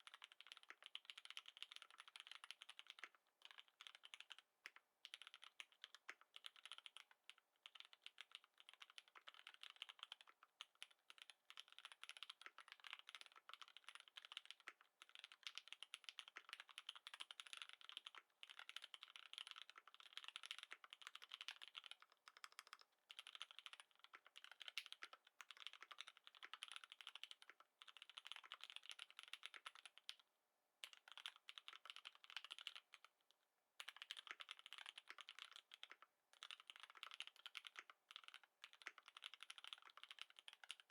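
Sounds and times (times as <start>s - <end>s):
mechanical keyboard typing: 0.0s - 30.2s, 30.8s - 33.1s, 33.8s - 40.9s.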